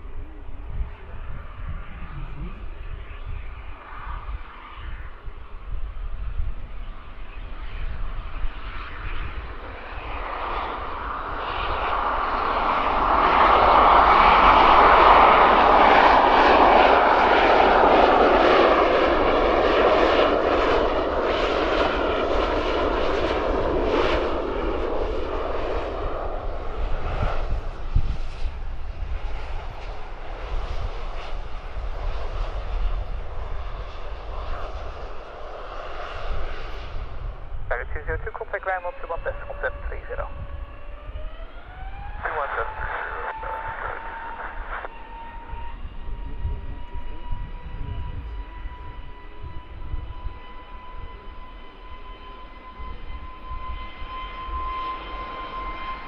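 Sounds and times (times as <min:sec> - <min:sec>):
jet aircraft passing: 0:00.0 - 0:56.0.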